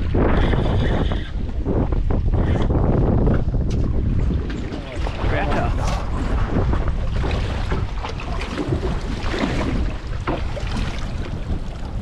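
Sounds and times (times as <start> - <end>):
waves slapping against hull: 0.0 - 12.0
wind buffeting microphone: 0.0 - 12.0.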